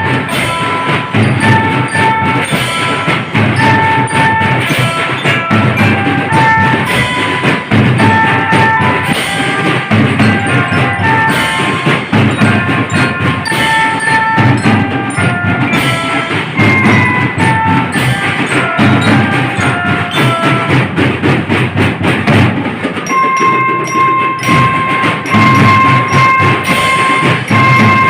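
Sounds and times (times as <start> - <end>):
bell lyra melody: 0.0 - 21.4, 22.3 - 28.0
marching drums: 0.0 - 28.0.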